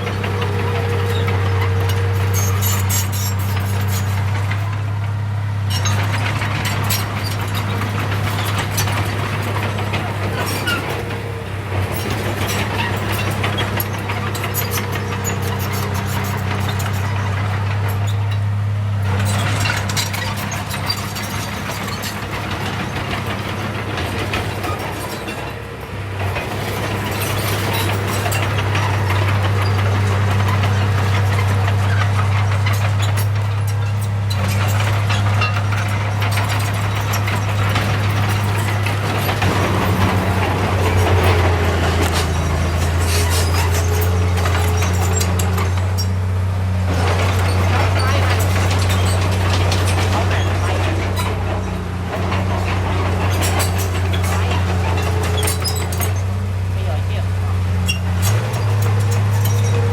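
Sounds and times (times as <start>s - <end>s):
diesel engine running: 0.0s - 59.9s
machine rattling and clanking: 0.0s - 59.9s.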